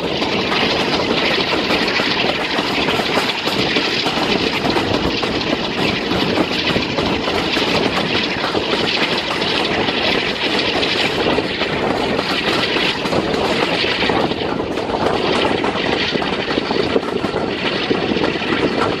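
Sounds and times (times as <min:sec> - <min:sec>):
wheel-on-rail rumble and clatter: 0:00.0 - 0:19.0
wind rushing past microphone: 0:00.0 - 0:19.0.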